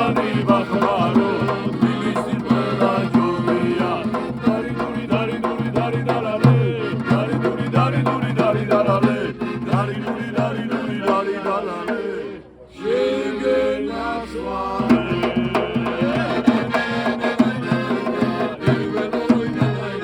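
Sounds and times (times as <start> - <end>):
music with melody and drums: 0.0 - 11.4, 14.9 - 20.0.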